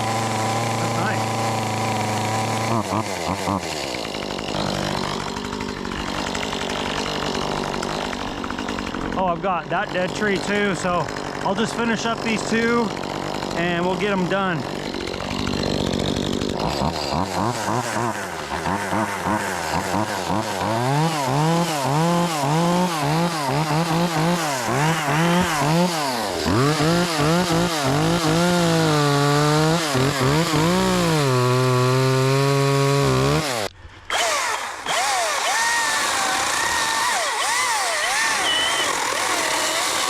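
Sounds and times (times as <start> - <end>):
chainsaw engine revving: 0.0 - 40.0.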